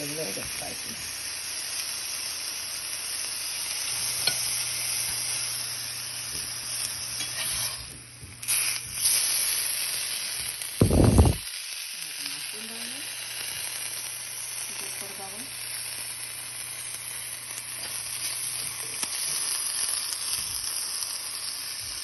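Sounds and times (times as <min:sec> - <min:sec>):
sharp crackle: 0:00.0 - 0:22.0
vegetables sizzling in a pan: 0:00.0 - 0:22.0.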